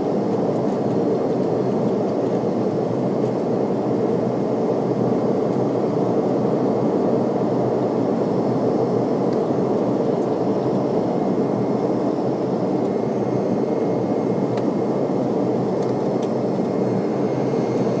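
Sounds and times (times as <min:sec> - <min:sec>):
jet engine cabin rush: 0:00.0 - 0:18.0.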